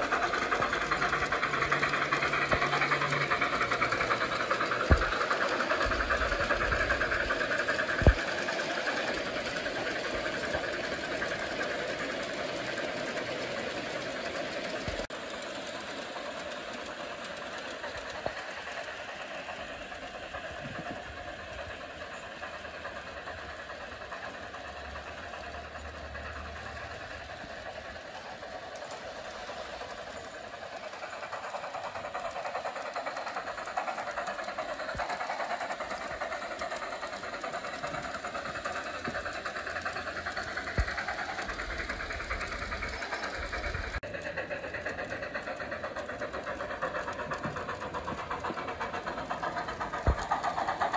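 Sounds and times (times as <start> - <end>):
model train wheels rattling: 0.0 - 50.9.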